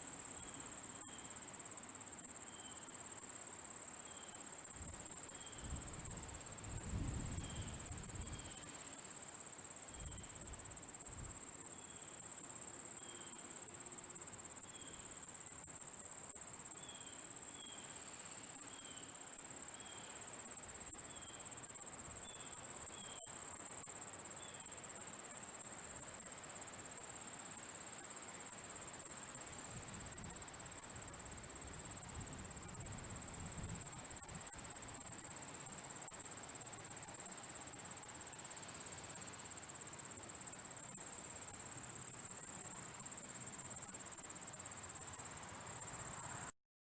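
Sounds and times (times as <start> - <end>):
crickets trilling: 0.0 - 46.5.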